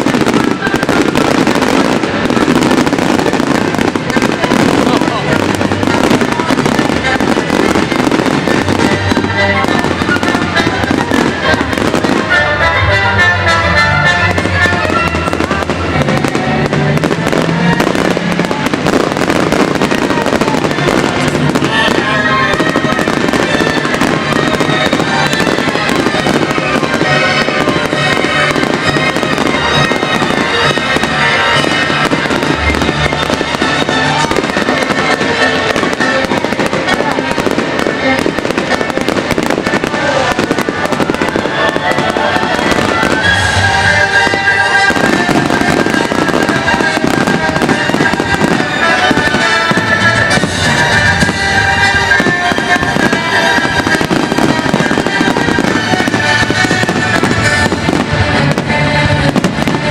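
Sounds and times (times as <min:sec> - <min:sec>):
fireworks bursting and crackling: 0:00.0 - 0:59.9
loud music: 0:00.0 - 0:59.9.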